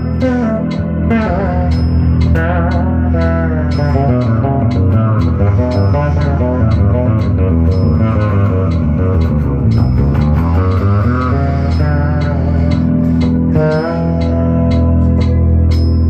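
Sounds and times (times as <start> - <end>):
electric bass melody: 0.0 - 16.0
looped bass part: 0.0 - 16.0
metronome click ticking: 0.0 - 16.0.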